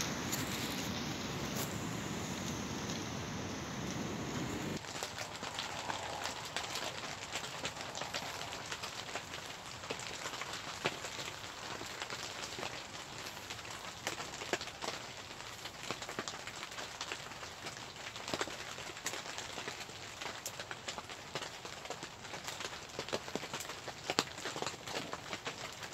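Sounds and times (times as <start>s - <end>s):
rain drops ticking: 0.0s - 25.9s
steady rain hiss: 0.0s - 25.9s.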